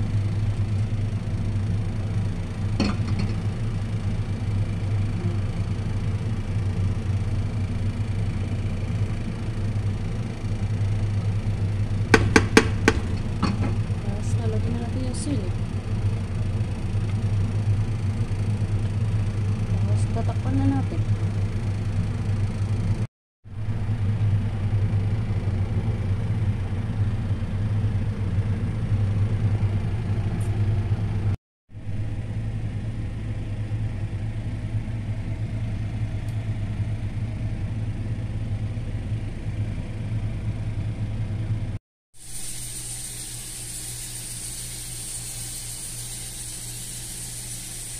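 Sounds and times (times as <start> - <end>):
low machine hum: 0.0 - 47.9.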